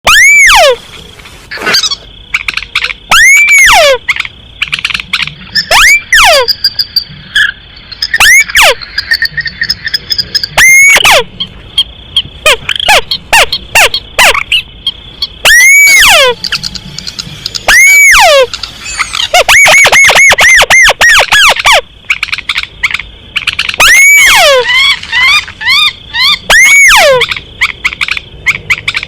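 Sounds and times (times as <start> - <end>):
bird call rising and falling: 0.0 - 29.0.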